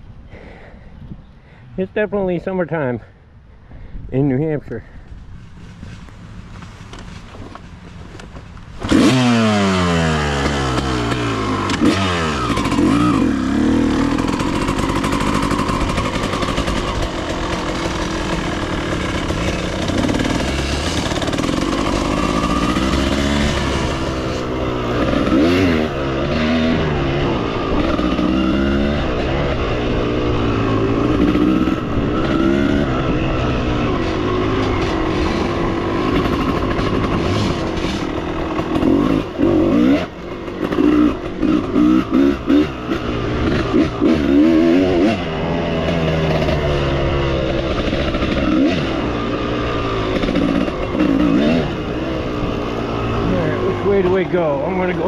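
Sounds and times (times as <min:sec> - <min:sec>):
motorcycle engine revving: 0:05.6 - 0:55.0.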